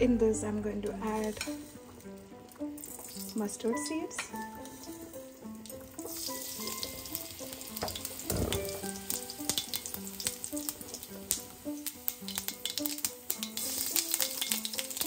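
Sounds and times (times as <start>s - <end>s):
background music slow melody: 0.0s - 15.0s
seeds sizzling in hot oil: 1.0s - 15.0s.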